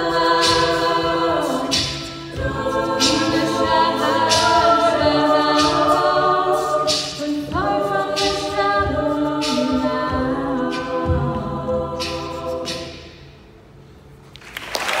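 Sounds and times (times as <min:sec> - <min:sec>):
a cappella choir singing: 0:00.0 - 0:13.5.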